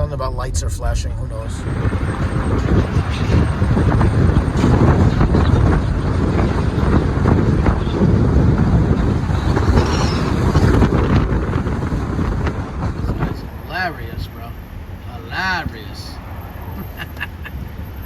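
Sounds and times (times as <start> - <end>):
vehicle road and engine rumble: 0.0 - 18.0
wind noise on microphone: 0.0 - 18.0.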